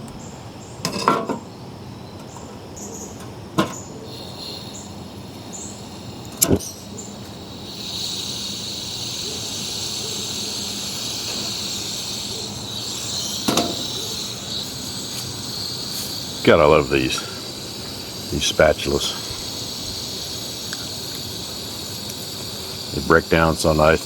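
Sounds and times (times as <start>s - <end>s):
crickets chirping: 1.5s - 24.0s
camp stove hissing: 3.6s - 24.0s.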